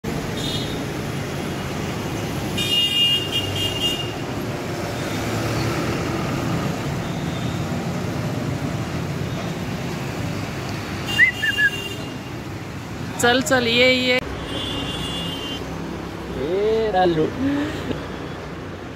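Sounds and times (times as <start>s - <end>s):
road traffic: 0.0s - 18.9s.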